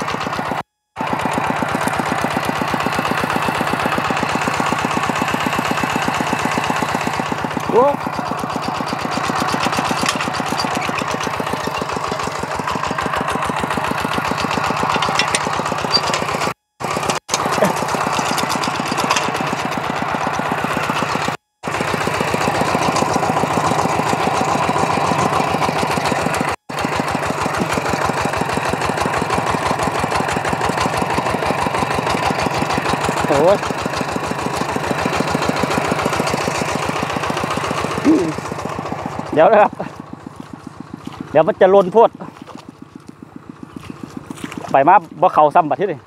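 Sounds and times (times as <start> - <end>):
diesel engine chugging: 0.0 - 46.0.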